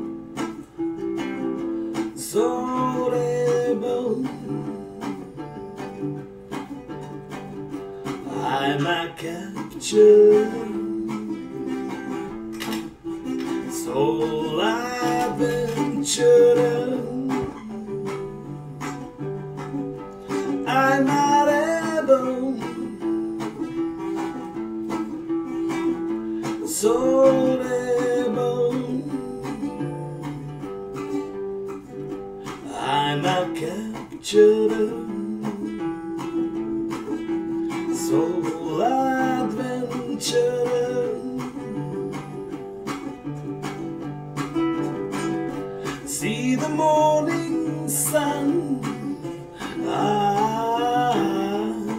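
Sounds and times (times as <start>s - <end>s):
guitalele strummed chords: 0.0s - 51.9s
person singing: 0.0s - 51.9s.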